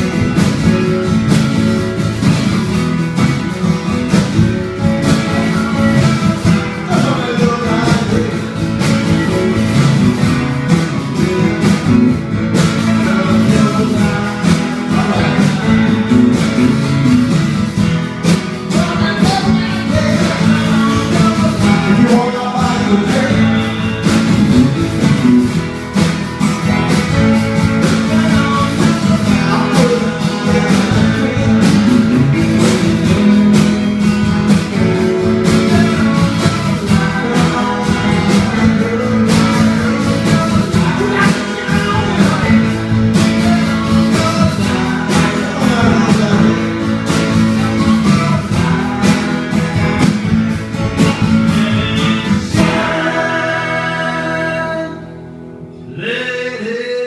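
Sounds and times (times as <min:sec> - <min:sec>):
electric guitars playing rock: 0:00.0 - 0:55.9.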